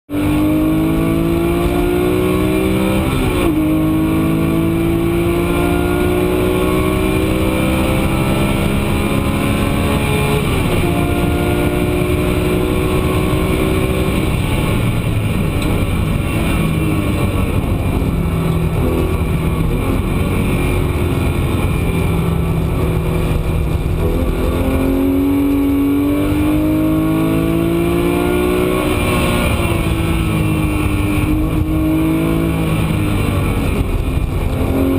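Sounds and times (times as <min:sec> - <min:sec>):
car engine revving hard: 0:00.1 - 0:34.9.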